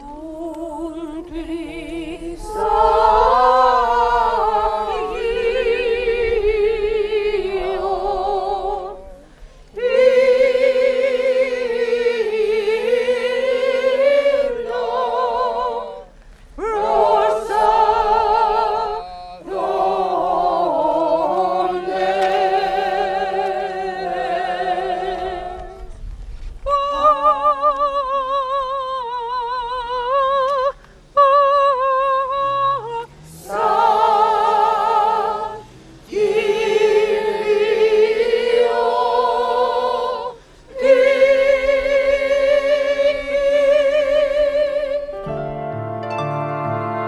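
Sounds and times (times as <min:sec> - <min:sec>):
women's choir singing: 0:00.0 - 0:26.0, 0:26.7 - 0:45.2.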